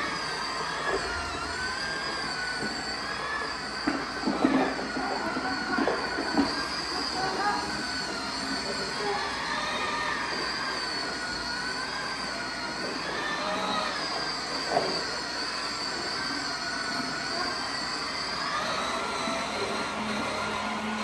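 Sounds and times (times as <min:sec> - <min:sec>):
toy train motor whine: 0:00.0 - 0:21.0.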